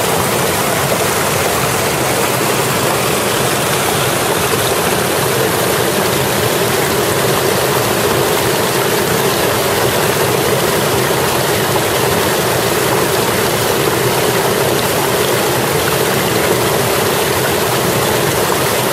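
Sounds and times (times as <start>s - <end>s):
stream rushing over boulders: 0.0s - 18.9s.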